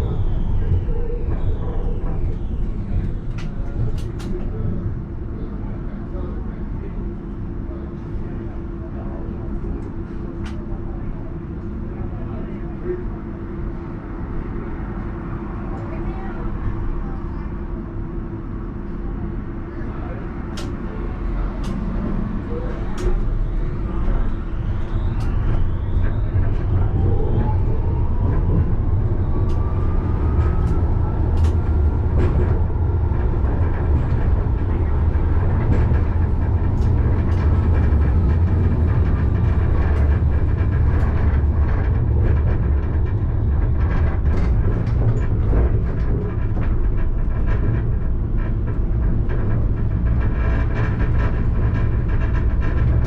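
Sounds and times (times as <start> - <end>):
tram rumble: 0.0 - 53.0.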